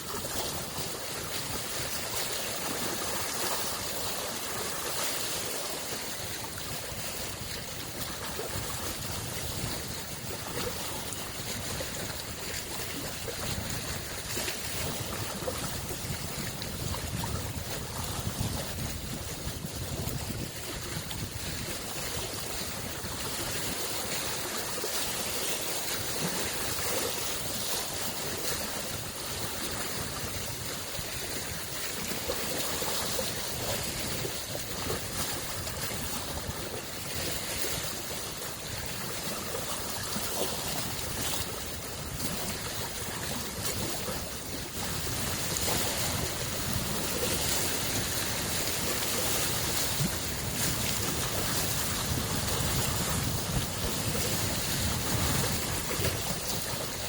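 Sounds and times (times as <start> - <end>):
lake waves lapping on shore: 0.0 - 57.0.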